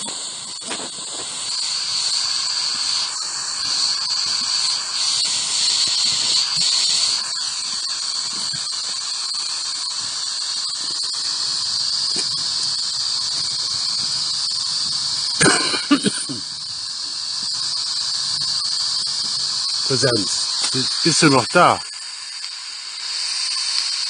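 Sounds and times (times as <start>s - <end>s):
high even whine: 0.0s - 24.0s
static hiss: 0.0s - 24.0s.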